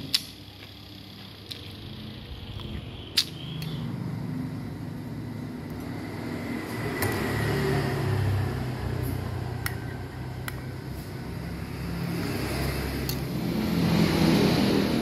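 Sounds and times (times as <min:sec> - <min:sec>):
passing motor traffic rumble: 0:01.8 - 0:15.0.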